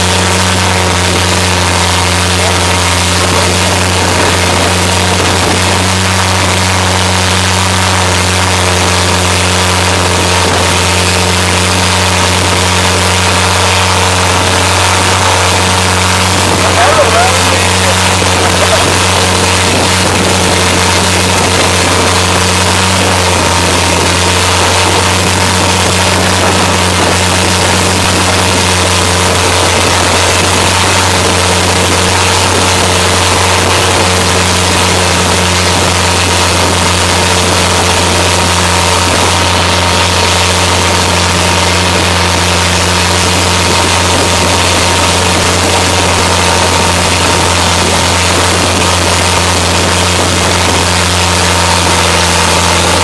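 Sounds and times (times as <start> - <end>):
boat engine drone: 0.0 - 53.0
water rushing along hull: 0.0 - 53.0.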